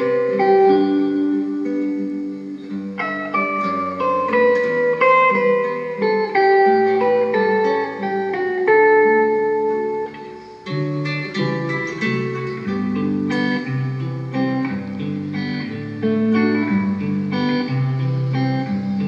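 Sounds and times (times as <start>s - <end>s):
guitar playing plucked melody: 0.0s - 19.0s.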